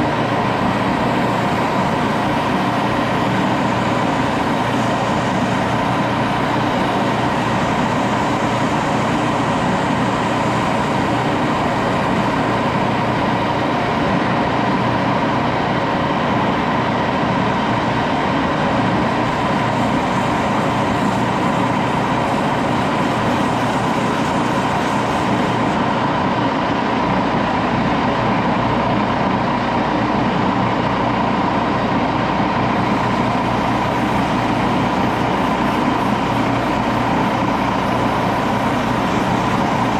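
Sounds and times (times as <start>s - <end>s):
metal lathe running: 0.0s - 27.1s, 32.7s - 39.9s.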